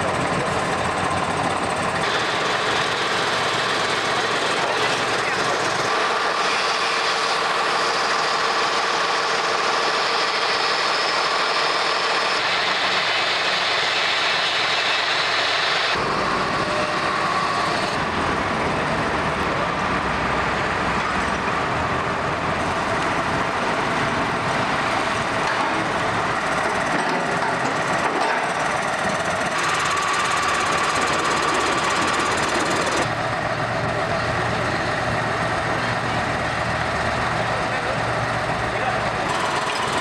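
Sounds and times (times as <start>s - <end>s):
heavy machinery noise: 0.0s - 40.0s.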